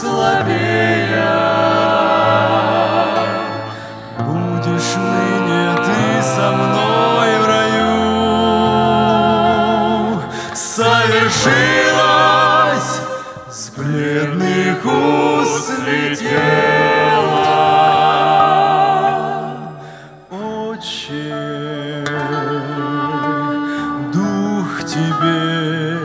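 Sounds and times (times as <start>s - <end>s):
vocal ensemble singing a hymn: 0.0s - 26.0s.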